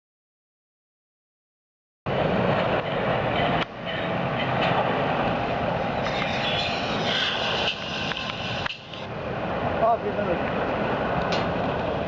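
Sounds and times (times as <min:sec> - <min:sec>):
distant jet engines taking off: 0:02.1 - 0:12.0.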